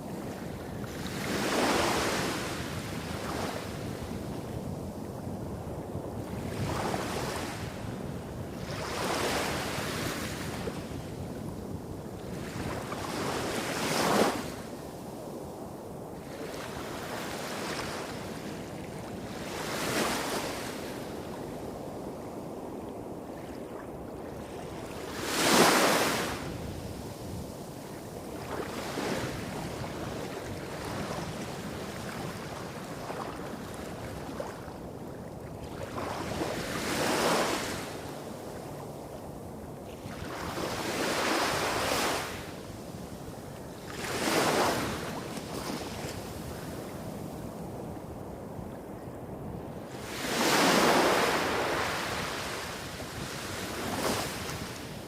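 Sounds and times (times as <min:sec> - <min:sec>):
small waves breaking on beach: 0:00.0 - 0:05.4, 0:12.2 - 0:14.7, 0:15.6 - 0:48.2, 0:49.7 - 0:55.0.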